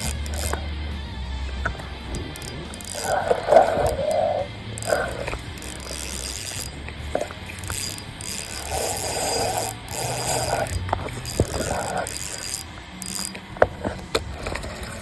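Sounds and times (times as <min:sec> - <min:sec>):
fishing reel ratcheting: 0:00.0 - 0:15.0.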